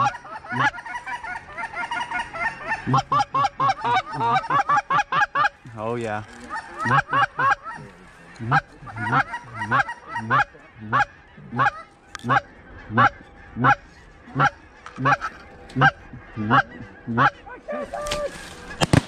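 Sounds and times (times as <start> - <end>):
goose honking: 0.0 - 18.9.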